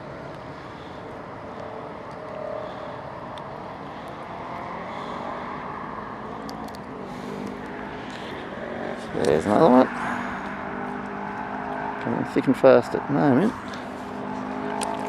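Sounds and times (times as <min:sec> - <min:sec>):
distant road traffic hum: 0:00.0 - 0:15.0.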